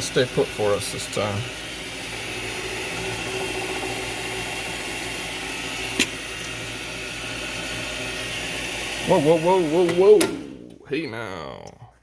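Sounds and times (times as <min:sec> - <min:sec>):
metal lathe running: 0:00.0 - 0:10.9.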